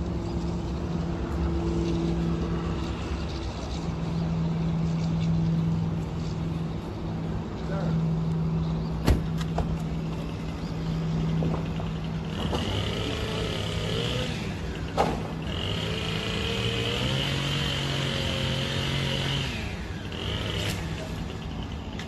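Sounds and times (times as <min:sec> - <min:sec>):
vehicle engine hum: 0:00.0 - 0:22.0.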